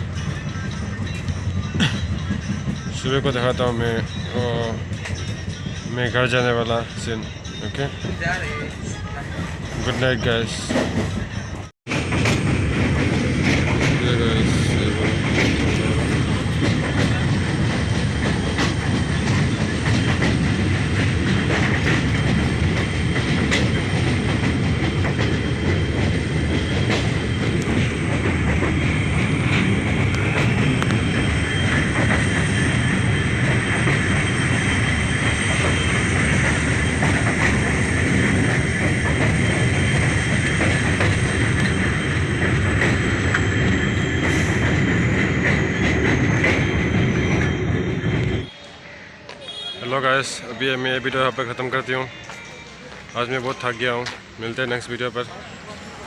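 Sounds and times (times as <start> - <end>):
train wheels rumbling on rails: 0.0 - 48.6.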